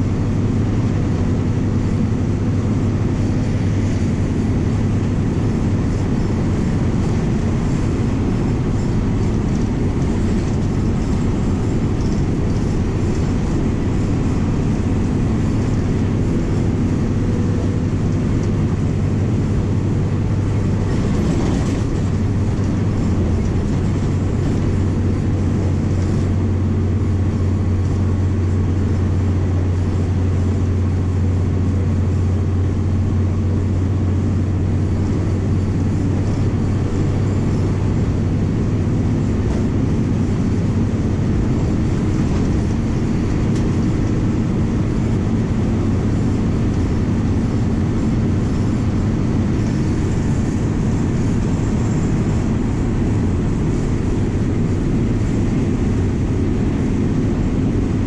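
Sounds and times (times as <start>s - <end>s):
bus diesel engine droning: 0.0s - 58.0s
road noise: 0.0s - 58.0s
wind noise: 0.0s - 58.0s.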